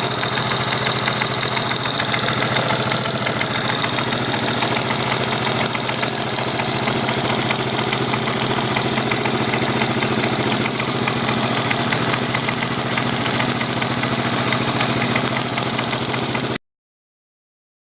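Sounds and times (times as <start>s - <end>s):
motorcycle engine idling: 0.0s - 16.6s
rhythmic engine knock: 0.0s - 16.6s.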